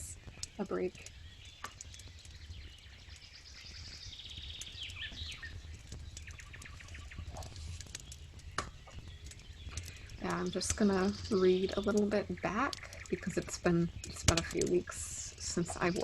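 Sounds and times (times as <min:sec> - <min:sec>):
campfire crackling: 0:00.0 - 0:16.0
birds singing: 0:00.1 - 0:16.0.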